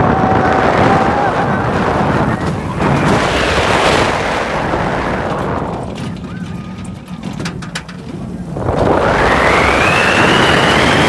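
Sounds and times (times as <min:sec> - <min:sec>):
roller coaster wheels rumbling: 0:00.0 - 0:11.0
rushing wind over microphone: 0:00.0 - 0:11.0.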